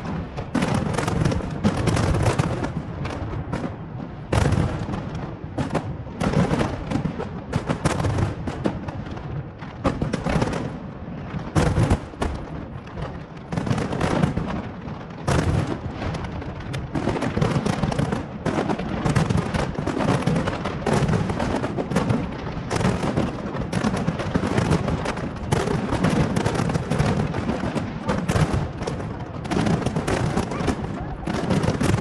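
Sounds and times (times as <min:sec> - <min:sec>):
fireworks exploding: 0:00.0 - 0:32.0.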